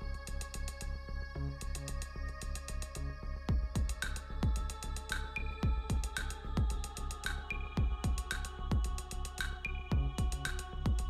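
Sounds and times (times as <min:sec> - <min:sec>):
electronic music with beat: 0:00.0 - 0:11.0.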